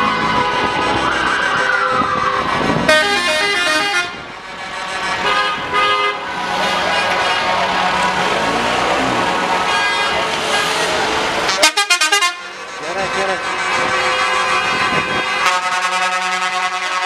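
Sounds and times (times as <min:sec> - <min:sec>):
vehicles running: 0:00.0 - 0:17.0
vehicle horns honking: 0:02.8 - 0:17.0.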